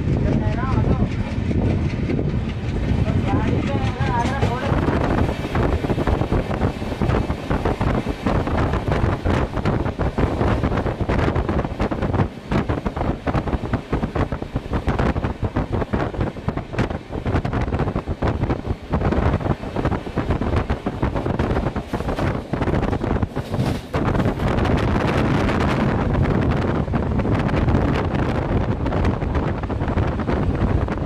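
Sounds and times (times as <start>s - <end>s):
train running on rails: 0.0s - 31.0s
wind buffeting microphone: 0.0s - 31.0s.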